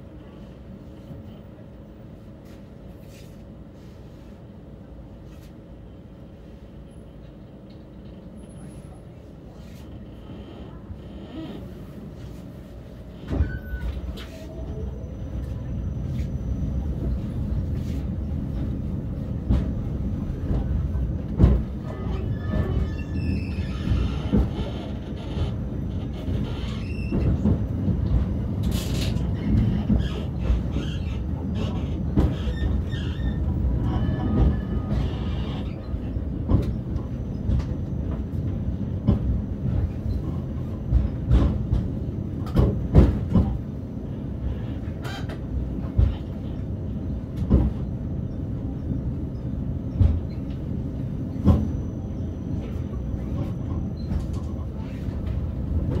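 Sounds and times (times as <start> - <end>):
tram rumble on rails: 0.0 - 56.0.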